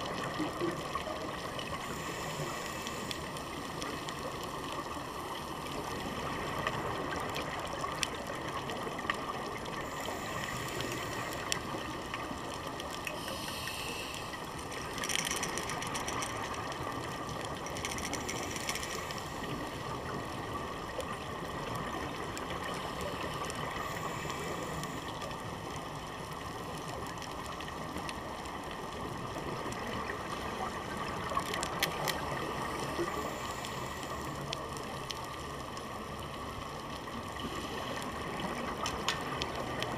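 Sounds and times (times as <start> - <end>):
muffled underwater hiss: 0.0 - 39.9.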